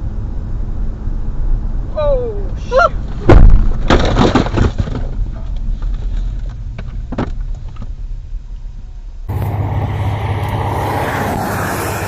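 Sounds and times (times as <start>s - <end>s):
car rumbling on the move: 0.0s - 12.0s.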